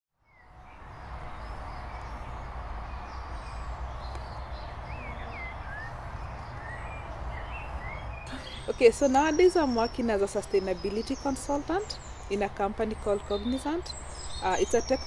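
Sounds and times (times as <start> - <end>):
bird calls: 0.6 - 15.0.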